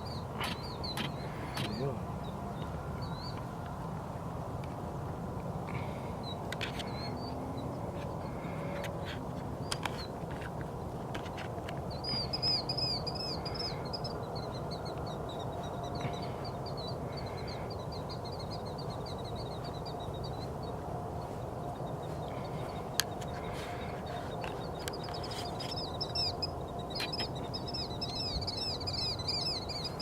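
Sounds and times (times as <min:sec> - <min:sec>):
wild birds chirping: 0:00.0 - 0:30.0.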